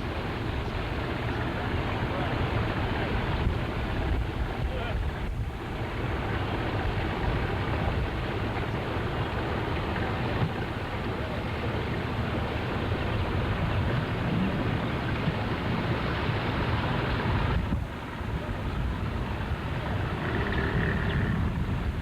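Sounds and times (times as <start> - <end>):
lake water noise: 0.0 - 22.0
wind buffeting the microphone: 0.0 - 22.0.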